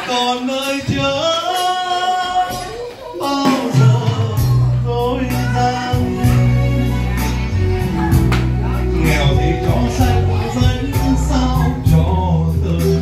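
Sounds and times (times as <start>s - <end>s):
karaoke ballad backing track: 0.0s - 13.0s.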